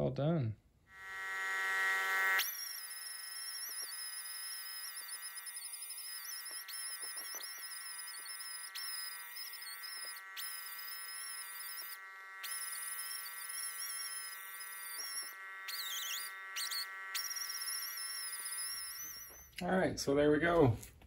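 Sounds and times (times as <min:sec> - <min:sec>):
power tool whining: 0:00.9 - 0:19.6.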